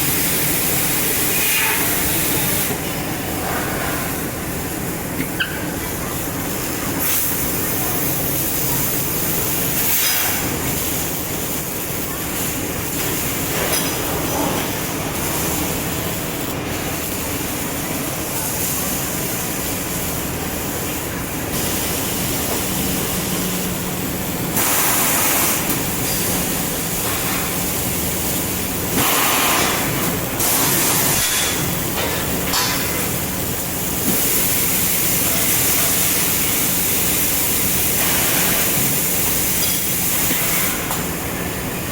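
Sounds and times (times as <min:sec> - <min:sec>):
laser cutting machine hum: 0:00.0 - 0:41.9.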